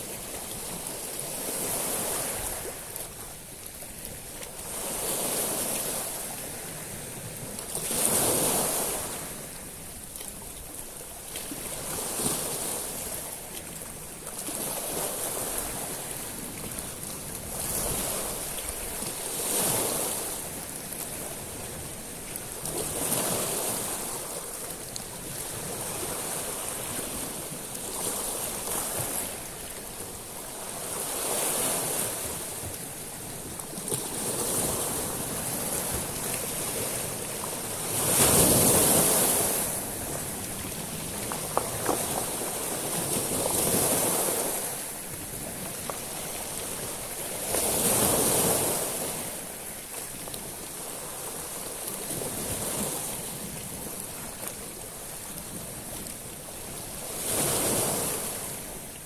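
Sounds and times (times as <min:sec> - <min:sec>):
waves washing over pebbles: 0:00.0 - 0:59.0.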